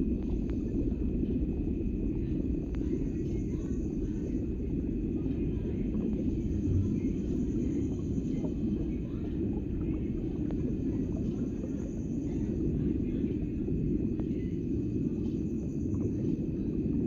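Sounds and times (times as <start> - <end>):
faint high whine: 0.0 - 17.0
low rumbling noise: 0.0 - 17.0.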